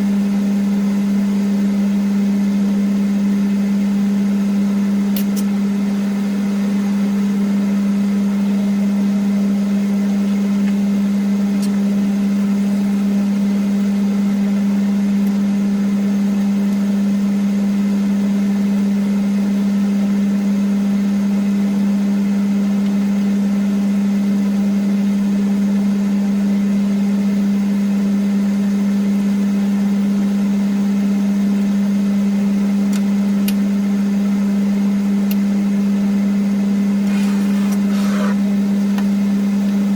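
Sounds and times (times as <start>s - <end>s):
range hood fan humming: 0.0s - 39.9s.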